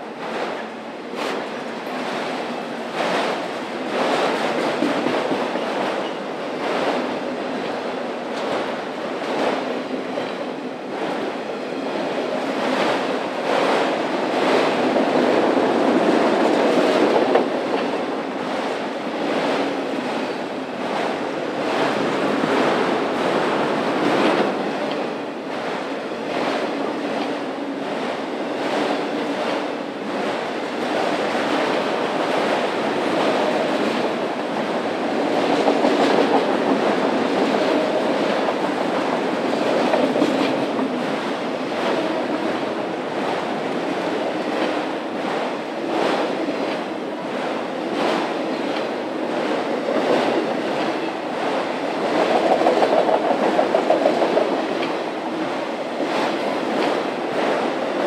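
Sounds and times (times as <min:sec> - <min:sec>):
train rumble: 0:00.0 - 0:58.0
train wheels clicking on rail joints: 0:00.2 - 0:58.0.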